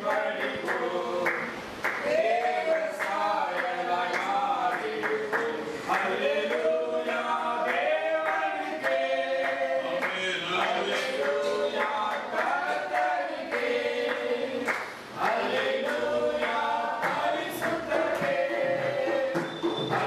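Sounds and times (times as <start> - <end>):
congregation singing worship song: 0.0 - 20.0
hand clapping: 0.0 - 20.0.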